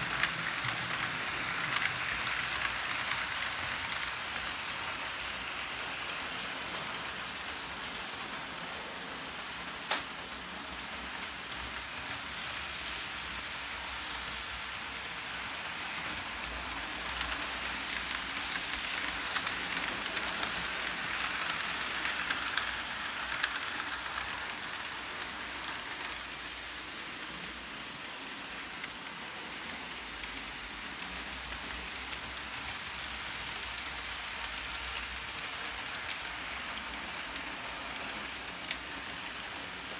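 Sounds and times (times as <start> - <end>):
model train motors whirring: 0.0 - 39.9
wheels clicking on rail joints: 0.0 - 39.9.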